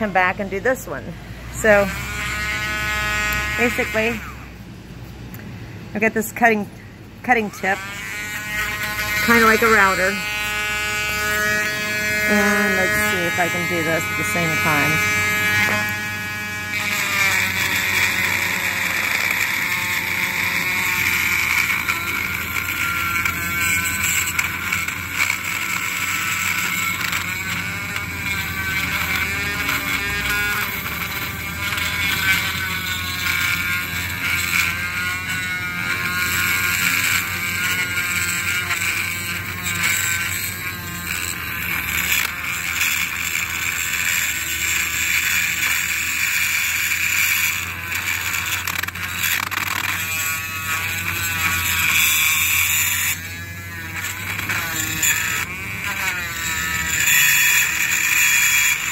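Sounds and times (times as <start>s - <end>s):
rotary tool whining: 0.0s - 58.9s.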